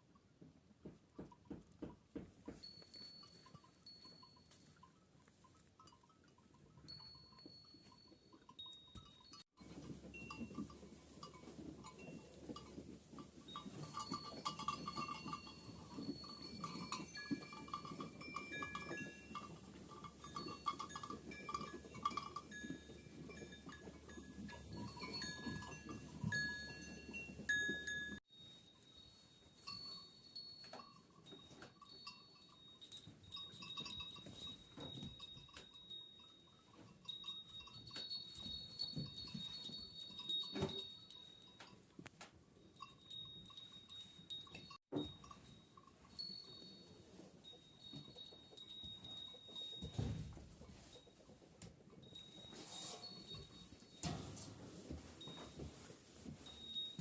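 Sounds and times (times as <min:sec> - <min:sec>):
sheep bells clinking: 0:01.2 - 0:57.0.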